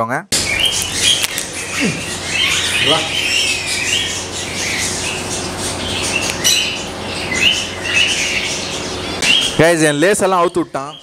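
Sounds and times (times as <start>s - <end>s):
birds chirping and squawking: 0.3s - 11.0s.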